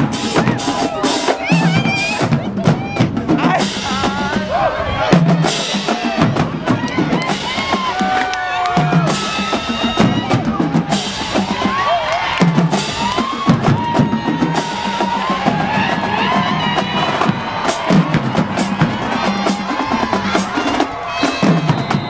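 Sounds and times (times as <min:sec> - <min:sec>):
drum-heavy music: 0:00.0 - 0:22.0
overlapping voices: 0:00.0 - 0:22.0.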